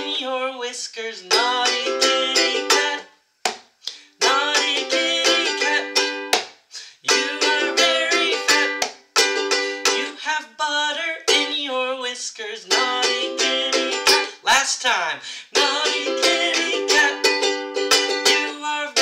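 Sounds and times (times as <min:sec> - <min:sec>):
ukulele strumming chords: 0:01.2 - 0:03.1, 0:04.2 - 0:14.4, 0:15.6 - 0:19.0.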